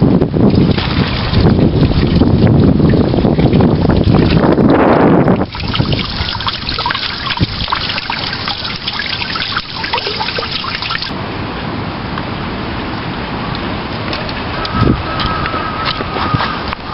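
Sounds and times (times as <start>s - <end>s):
small river running and trickling: 0.4s - 16.9s.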